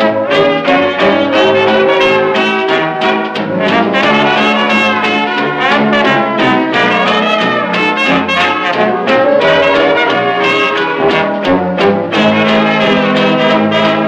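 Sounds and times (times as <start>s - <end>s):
rhythm section steady beat: 0.0s - 13.6s
reed instruments: 0.0s - 14.0s
trumpets and trombone playing: 0.0s - 14.0s.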